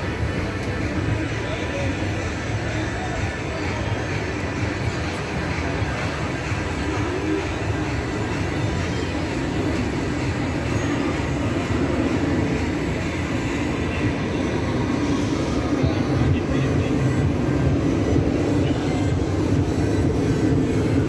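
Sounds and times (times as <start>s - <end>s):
aircraft engine rumble: 0.0s - 21.0s.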